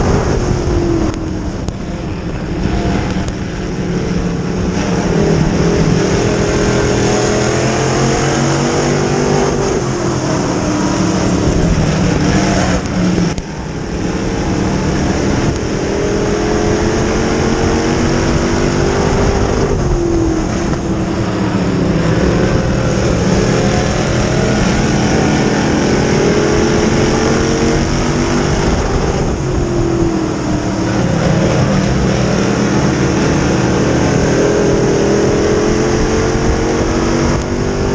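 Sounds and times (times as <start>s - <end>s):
race car engines: 0.0s - 37.9s.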